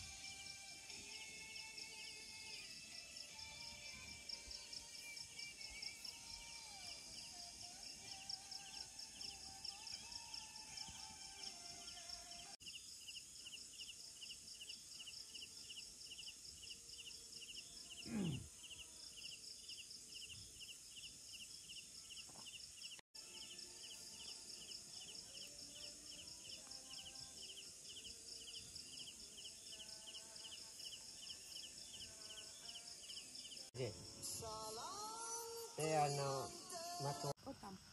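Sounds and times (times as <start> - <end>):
insects chirping: 0.0 - 37.9.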